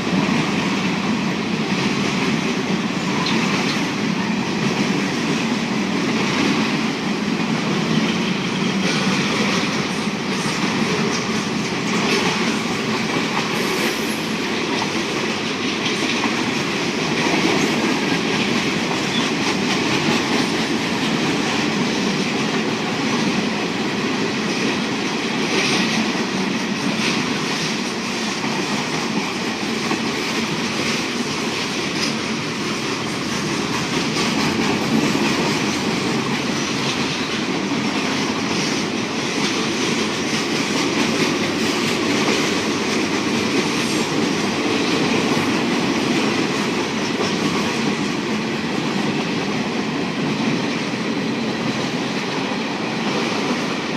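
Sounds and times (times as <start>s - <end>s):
train rolling on rails: 0.0s - 53.9s.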